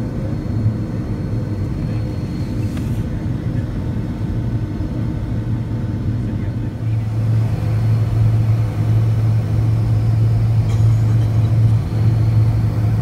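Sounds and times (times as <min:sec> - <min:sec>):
jet engines humming: 0:00.0 - 0:13.0.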